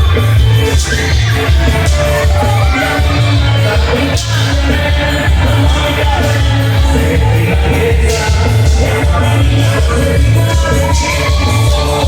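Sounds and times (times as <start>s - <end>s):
dance music with bass beat: 0.0s - 12.0s
person singing: 0.0s - 12.0s.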